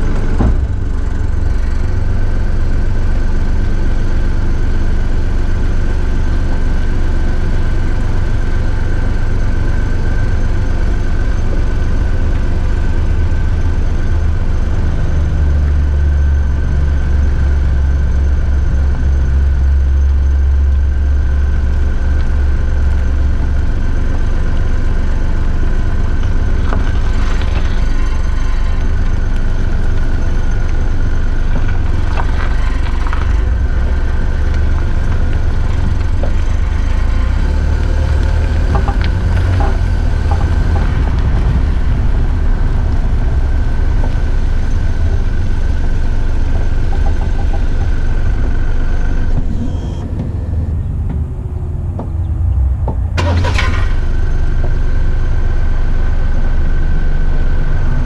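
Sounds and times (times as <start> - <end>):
car rumbling: 0.0 - 58.0
high whine from car rear: 0.0 - 58.0.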